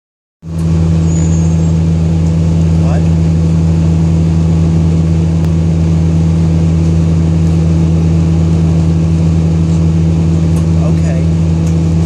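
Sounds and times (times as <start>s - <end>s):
bus engine idling: 0.4s - 12.0s.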